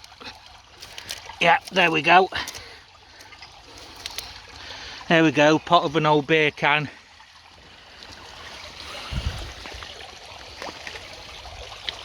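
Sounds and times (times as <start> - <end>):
brook water trickling: 0.0 - 12.0.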